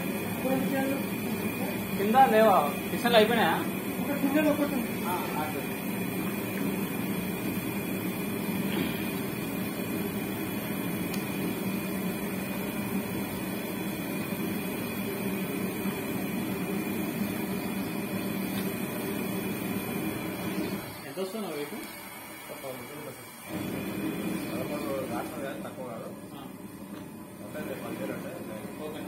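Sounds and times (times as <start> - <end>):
machine hum: 0.0 - 29.0.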